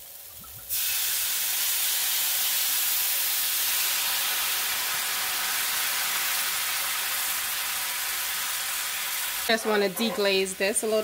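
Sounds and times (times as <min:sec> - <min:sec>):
wine sizzling in a hot pan: 0:00.0 - 0:11.0.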